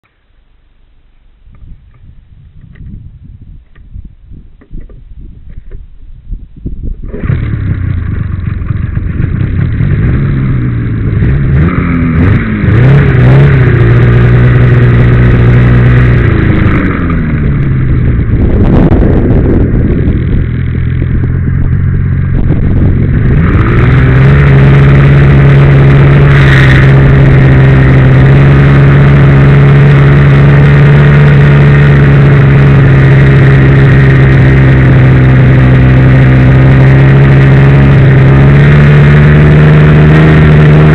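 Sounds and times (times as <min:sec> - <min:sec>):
snowmobile engine revving: 0:07.0 - 0:40.9.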